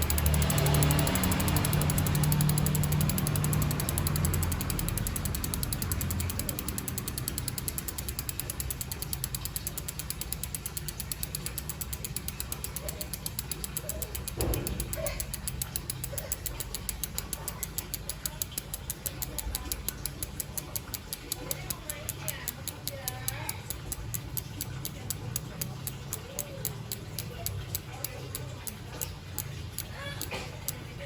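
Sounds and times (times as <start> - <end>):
freehub pawls clicking: 0.0 - 31.0.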